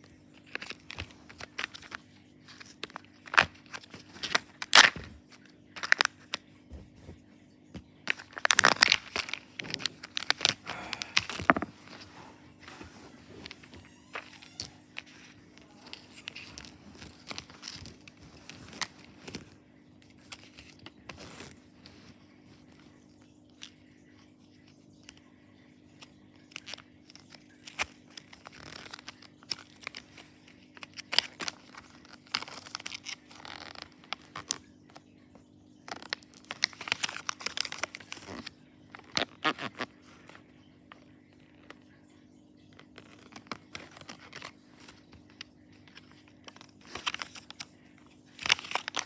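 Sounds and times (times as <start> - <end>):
plastic wrapping tearing and crinkling: 0.0 - 6.5, 7.8 - 25.3, 25.9 - 49.0
faint steady hum: 0.0 - 49.0.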